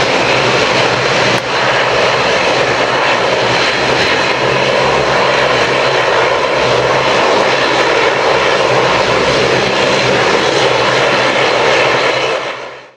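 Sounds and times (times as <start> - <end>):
jet engines roaring: 0.0 - 12.9.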